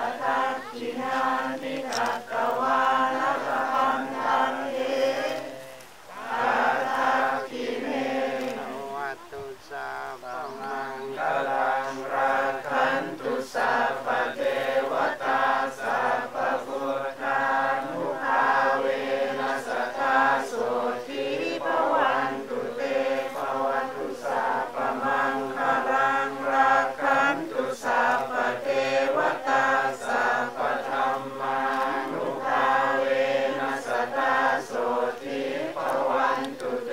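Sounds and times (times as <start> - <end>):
monks chanting in unison: 0.0 - 36.9.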